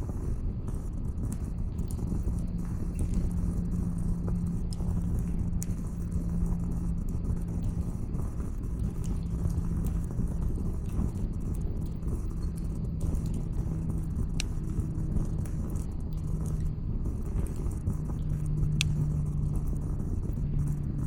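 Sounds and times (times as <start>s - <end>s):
campfire crackling and popping: 0.0s - 21.0s
low hum: 0.0s - 21.0s
low rumble: 1.2s - 21.0s.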